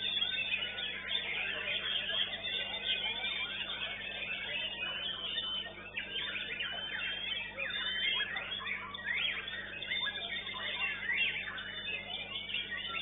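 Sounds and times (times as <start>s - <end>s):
songbirds whistling and trilling: 0.0s - 13.0s.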